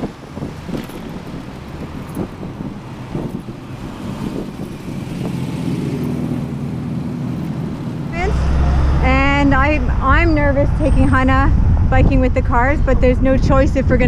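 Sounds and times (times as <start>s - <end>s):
car engines running: 0.0s - 14.0s.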